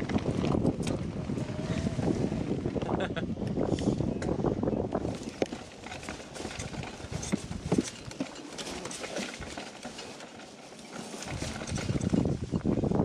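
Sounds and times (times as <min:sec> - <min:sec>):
bike parts rattling and knocking: 0:00.0 - 0:01.6, 0:04.1 - 0:13.0.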